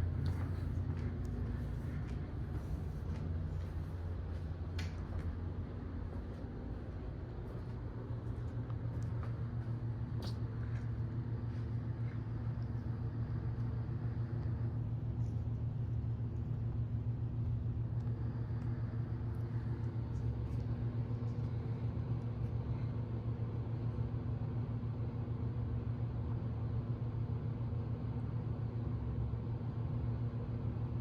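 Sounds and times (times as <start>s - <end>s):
ceiling fan humming and fluttering: 0.0s - 31.0s.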